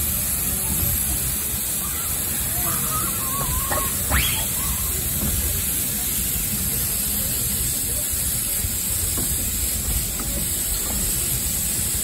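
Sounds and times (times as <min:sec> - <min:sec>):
steam hissing from locomotive: 0:00.0 - 0:12.0.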